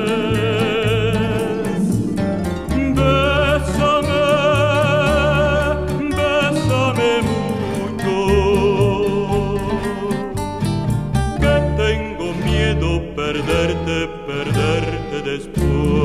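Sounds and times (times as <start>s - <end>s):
slow ballad music: 0.0s - 16.0s.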